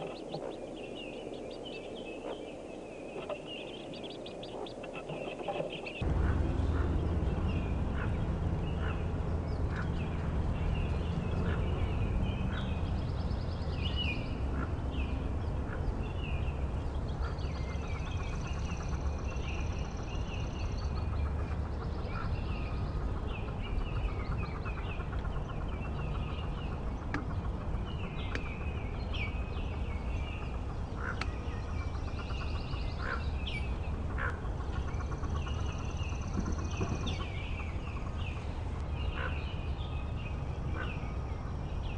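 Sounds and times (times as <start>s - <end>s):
ducklings peeping: 0.0s - 2.5s, 3.1s - 41.2s
steady low rumble: 0.0s - 41.9s.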